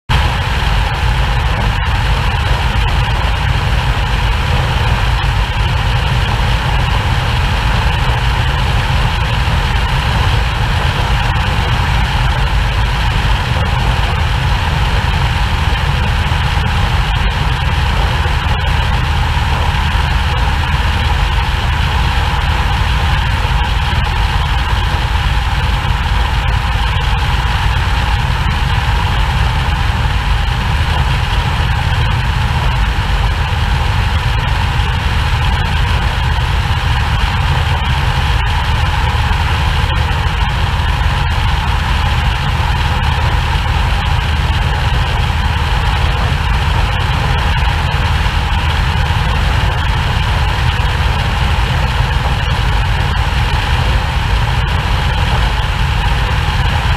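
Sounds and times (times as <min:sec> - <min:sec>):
airplane engine drone: 0:00.1 - 0:56.9
rushing airflow: 0:00.1 - 0:56.9.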